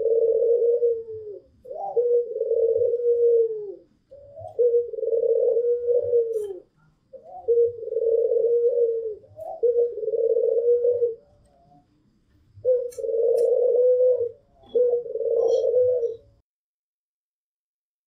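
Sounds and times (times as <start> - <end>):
dove cooing: 0.0 - 11.9, 12.5 - 16.4.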